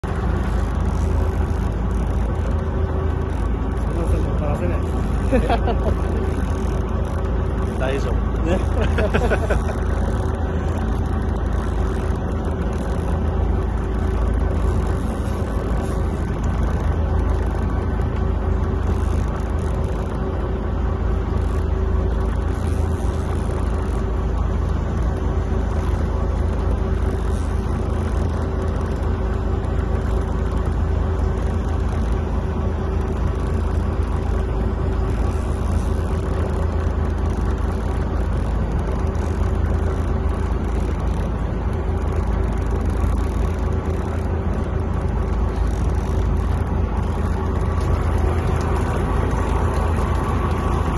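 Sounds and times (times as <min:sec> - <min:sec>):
boat engine rumbling: 0:00.0 - 0:50.9
faint steady hum: 0:00.0 - 0:50.9.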